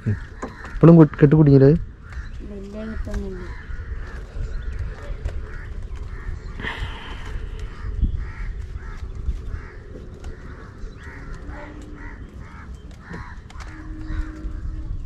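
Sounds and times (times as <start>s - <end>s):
crows cawing: 0.0s - 15.0s.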